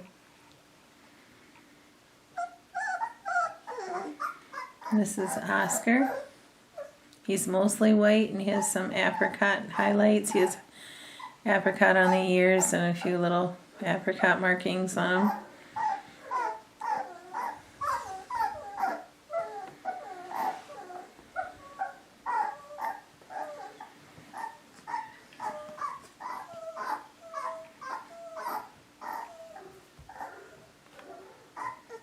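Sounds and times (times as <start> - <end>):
puppies whining: 2.3 - 7.0, 8.4 - 13.3, 15.0 - 32.0.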